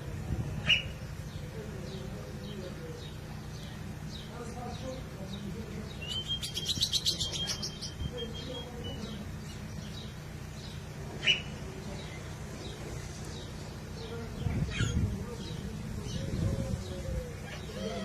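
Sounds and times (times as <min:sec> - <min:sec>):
low steady hum: 0:00.0 - 0:18.0
songbird singing: 0:00.0 - 0:18.0.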